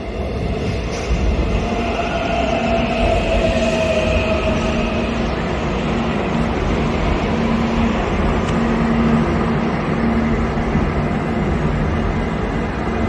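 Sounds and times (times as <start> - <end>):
subway train rumbling past: 0.0 - 13.0.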